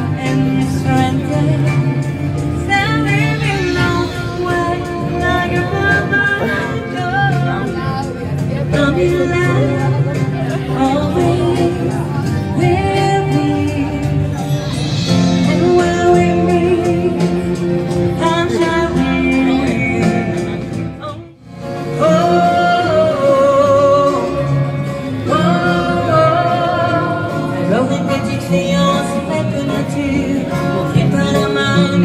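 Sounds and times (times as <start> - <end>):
woman singing into a microphone: 0.0 - 21.3, 21.9 - 32.0
acoustic guitar: 0.0 - 32.0.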